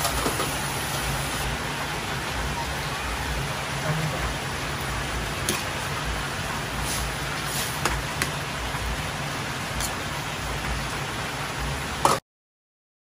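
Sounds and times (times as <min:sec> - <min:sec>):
broth simmering with hiss: 0:00.0 - 0:12.2.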